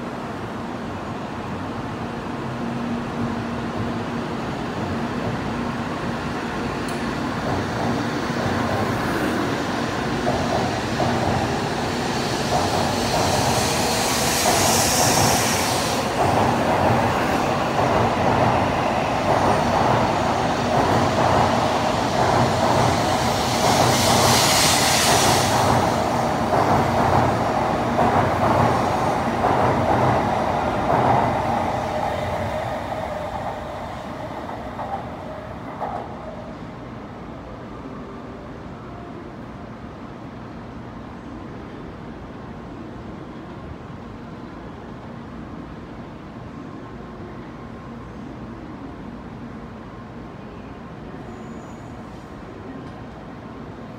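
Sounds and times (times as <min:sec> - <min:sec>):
train running past: 0:00.0 - 0:53.9.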